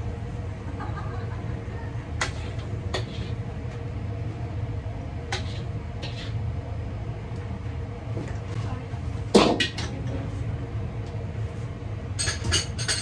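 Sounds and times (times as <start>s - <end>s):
low hum of kitchen machinery: 0.0s - 13.0s.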